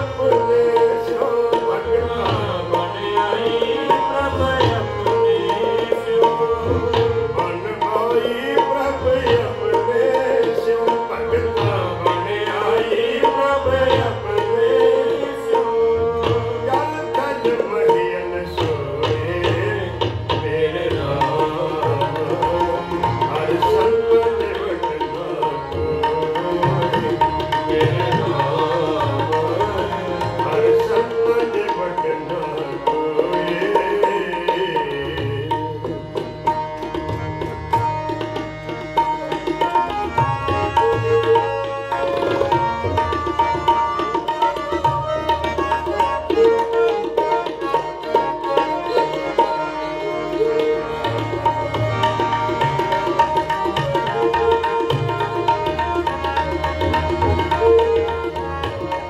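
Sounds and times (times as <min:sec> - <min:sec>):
harmonium held notes: 0:00.0 - 0:59.0
tabla drumming: 0:00.0 - 0:59.0.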